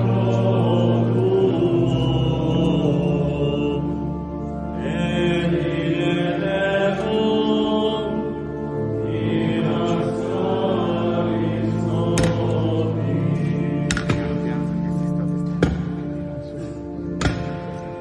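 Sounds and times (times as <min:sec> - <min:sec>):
men chanting a slow hymn: 0:00.0 - 0:18.0.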